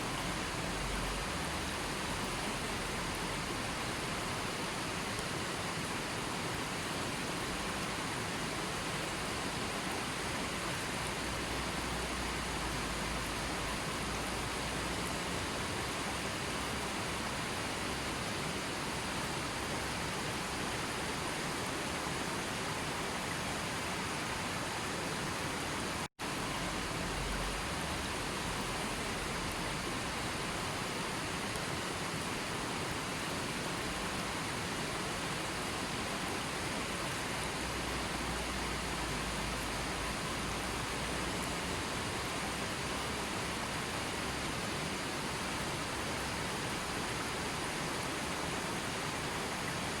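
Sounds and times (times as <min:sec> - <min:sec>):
water rushing: 0:00.0 - 0:50.0.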